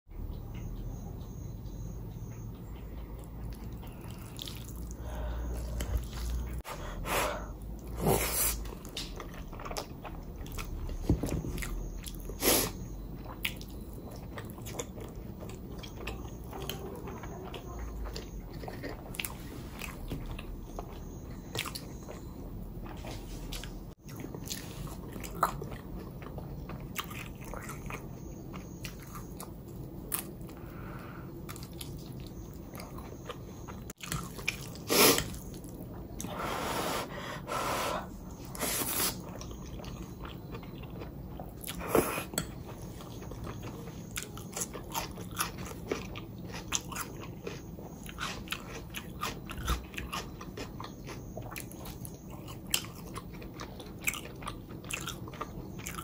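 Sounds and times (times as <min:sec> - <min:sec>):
crunchy chewing and biting: 0:03.2 - 0:06.7, 0:07.4 - 0:56.0.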